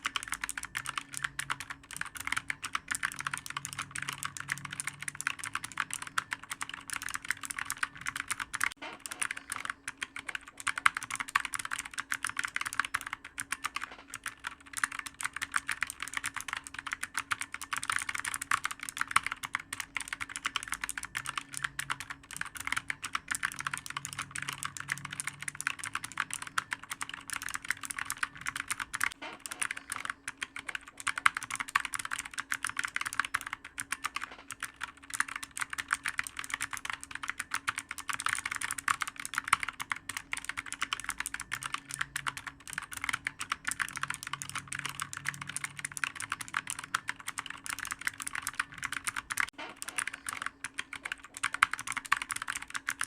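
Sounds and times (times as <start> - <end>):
fast typing on keyboard: 0.0 - 53.0.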